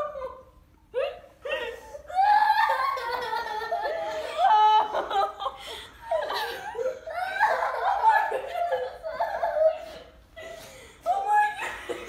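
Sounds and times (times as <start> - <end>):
children laughing and crying out: 0.0 - 12.0.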